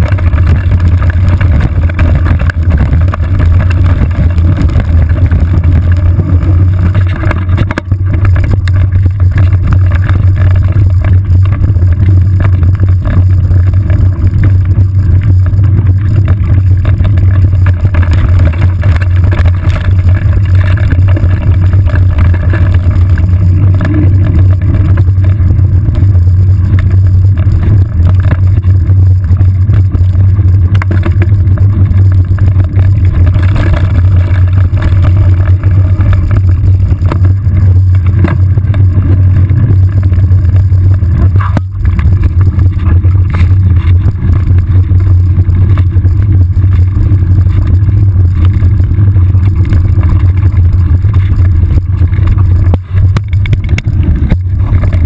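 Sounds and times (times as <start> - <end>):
bike knocks and rattles: 0.0 - 55.0
wind and vibration rumble: 0.0 - 55.0.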